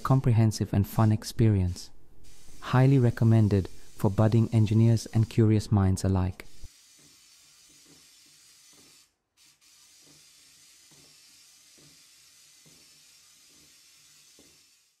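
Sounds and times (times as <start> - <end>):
steady hiss: 0.9 - 15.0.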